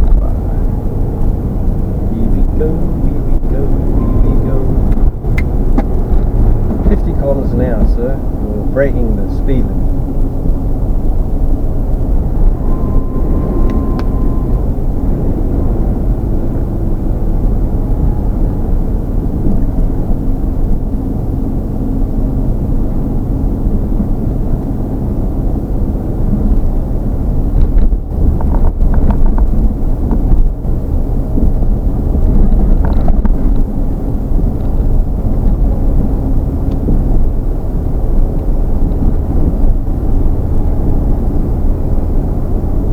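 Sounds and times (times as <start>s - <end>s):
road and engine rumble: 0.0s - 42.9s.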